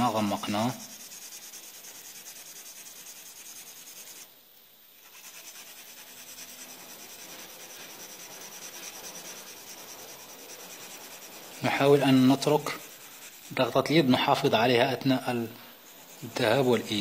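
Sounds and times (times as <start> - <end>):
pencil scratching on paper: 0.0 - 4.3, 5.0 - 17.0.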